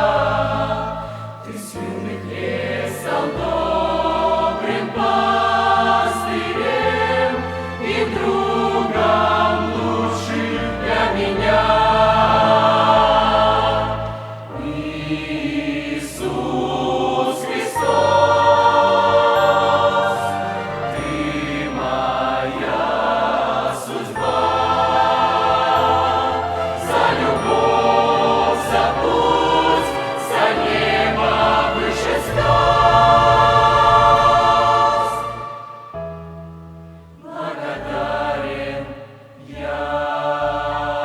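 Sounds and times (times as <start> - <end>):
choir singing worship song: 0.0 - 36.5, 37.2 - 41.0
instrumental accompaniment: 0.0 - 41.0.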